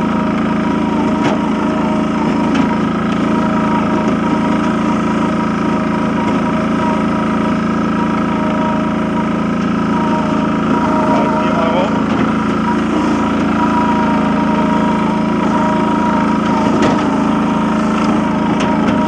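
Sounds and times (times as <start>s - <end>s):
farm loader engine running: 0.0s - 19.0s.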